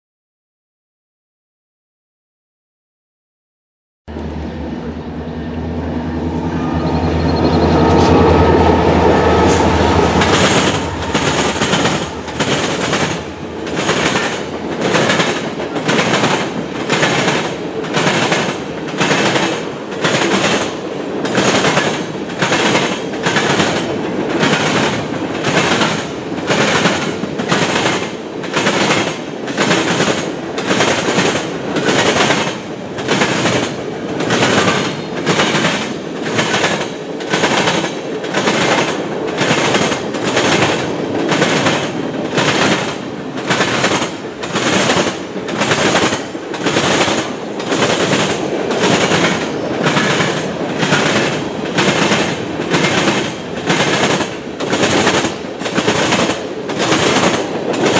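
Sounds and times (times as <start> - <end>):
diesel locomotives running past: 4.1 - 57.9
wheels clacking over rail joints: 7.7 - 57.9.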